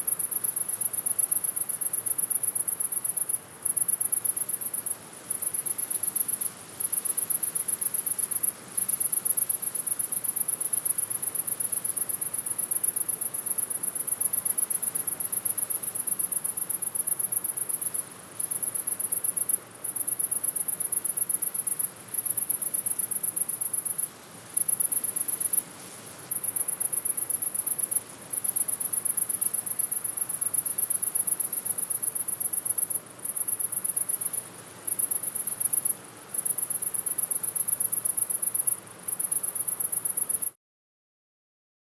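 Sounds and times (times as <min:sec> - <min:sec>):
cricket chirping trills: 0:00.0 - 0:25.6, 0:26.3 - 0:40.5.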